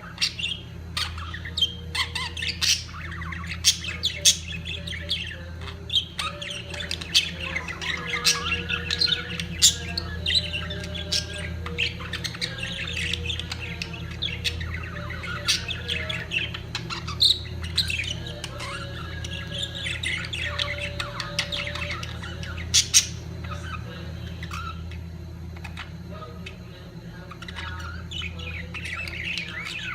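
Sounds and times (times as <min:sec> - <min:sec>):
budgerigars chattering and warbling: 0:00.0 - 0:29.9
steady low hum: 0:00.0 - 0:29.9.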